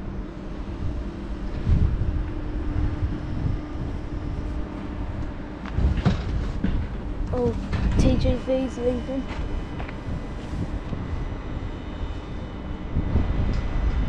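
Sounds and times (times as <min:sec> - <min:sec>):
electric train humming: 0:00.0 - 0:14.0
wind buffeting microphone: 0:00.0 - 0:14.0.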